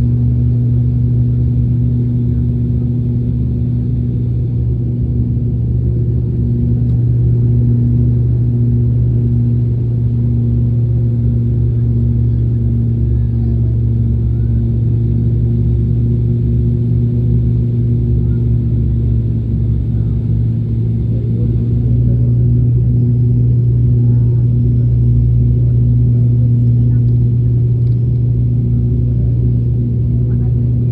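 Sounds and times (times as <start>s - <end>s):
propeller airliner cabin drone: 0.0s - 30.9s.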